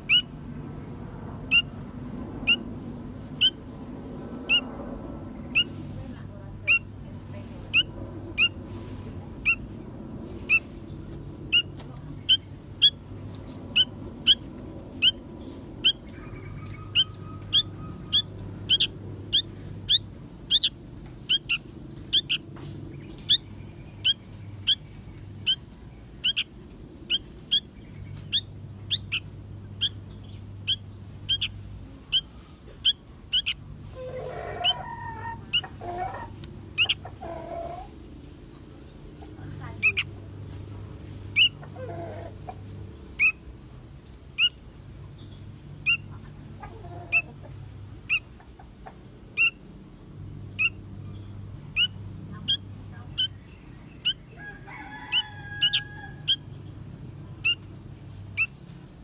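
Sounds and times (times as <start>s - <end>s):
bird chick chirping: 0.0s - 0.3s, 1.4s - 1.8s, 2.4s - 3.7s, 4.4s - 4.8s, 5.4s - 5.8s, 6.4s - 9.8s, 10.4s - 40.3s, 41.3s - 43.6s, 44.3s - 59.0s.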